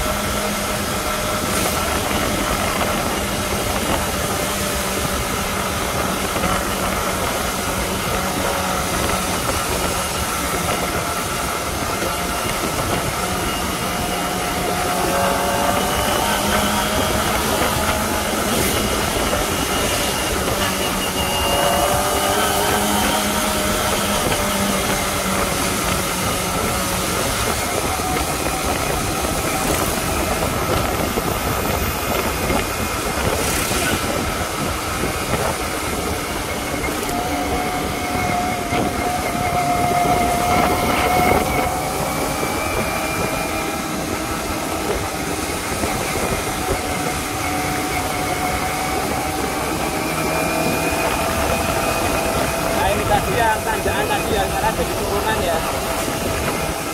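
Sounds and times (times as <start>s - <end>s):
wind rush over microphone: 0.0s - 56.9s.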